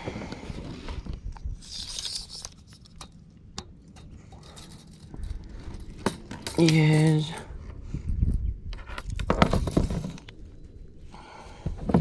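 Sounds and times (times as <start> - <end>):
handling noise rustling and scraping: 0.0 - 7.8, 8.7 - 12.0.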